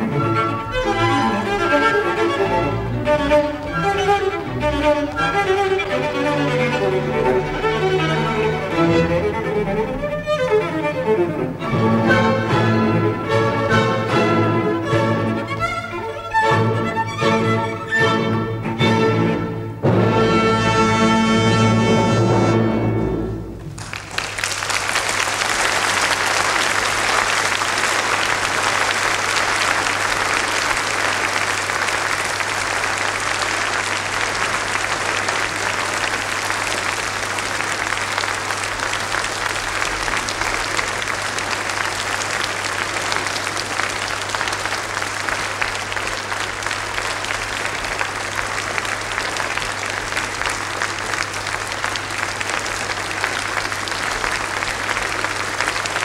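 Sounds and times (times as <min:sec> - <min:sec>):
audience applauding: 0:00.0 - 0:18.0, 0:23.6 - 0:56.0.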